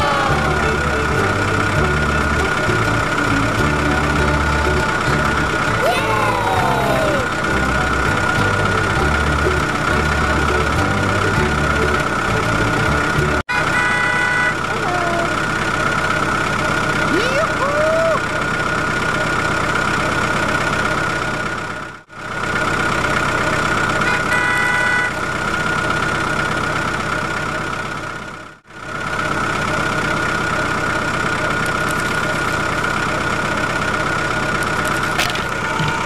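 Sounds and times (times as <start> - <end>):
toy tractor engine running: 0.0 - 36.0.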